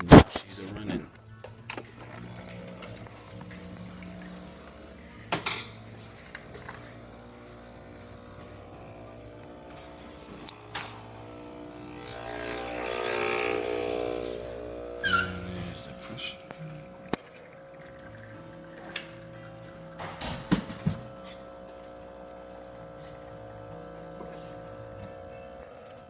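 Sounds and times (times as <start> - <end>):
espresso machine pump hum: 1.9 - 26.0.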